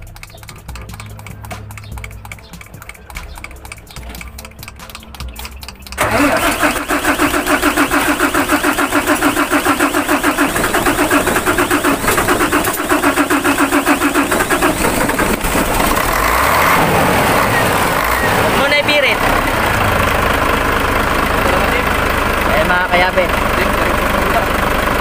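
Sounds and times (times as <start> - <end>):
diesel engine cranking and starting: 0.0 - 25.0.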